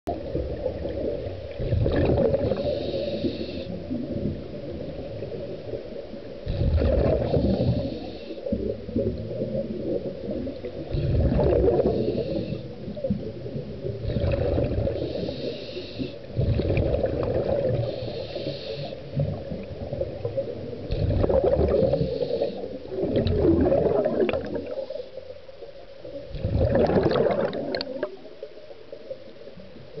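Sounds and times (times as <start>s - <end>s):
gurgling exhaled air bubbles: 0.1s - 5.6s, 6.4s - 15.4s, 16.3s - 18.2s, 19.1s - 25.0s, 26.2s - 28.2s
low underwater rumble: 0.1s - 30.0s.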